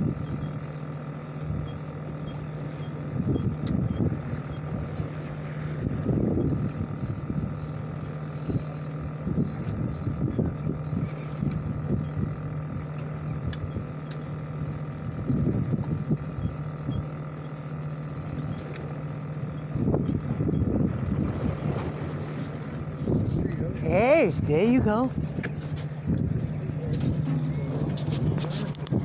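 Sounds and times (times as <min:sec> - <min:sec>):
boat engine humming: 0:00.0 - 0:29.0
water: 0:00.0 - 0:29.0
wind: 0:00.0 - 0:29.0.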